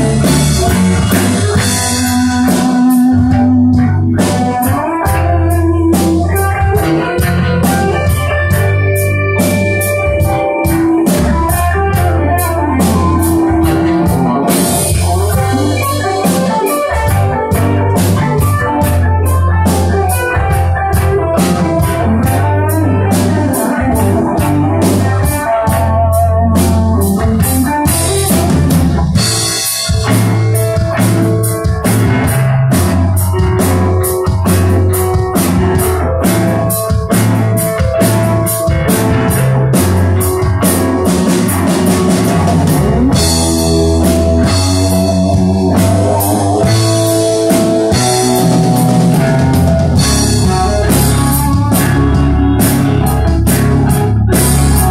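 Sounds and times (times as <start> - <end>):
rock band playing live: 0.0 - 54.9.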